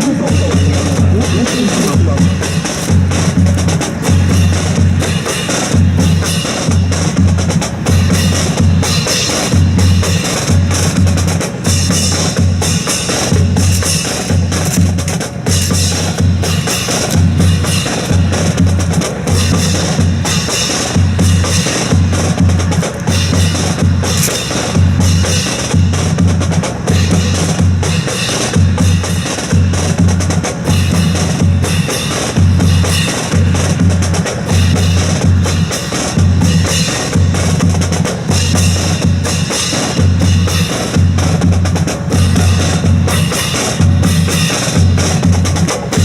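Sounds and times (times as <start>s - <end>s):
drum-led march music: 0.0s - 46.0s.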